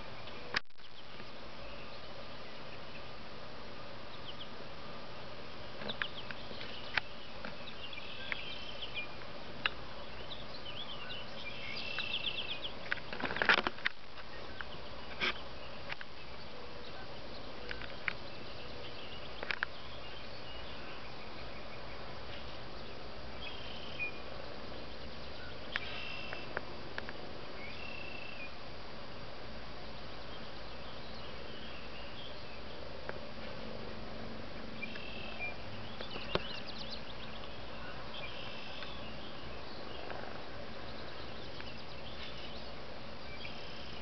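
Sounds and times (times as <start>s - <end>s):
small birds chirping: 0.0s - 44.0s
steady hiss: 0.0s - 44.0s.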